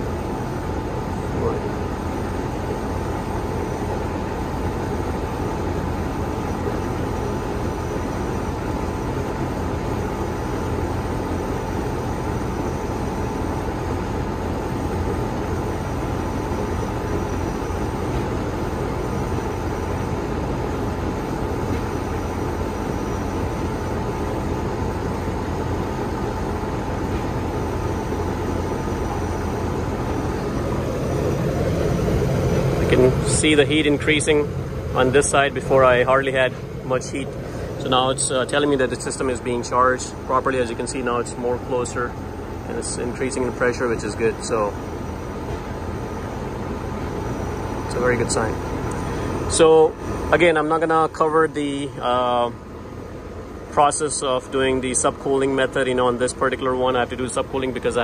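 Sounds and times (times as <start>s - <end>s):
air conditioner unit whirring: 0.0s - 58.0s.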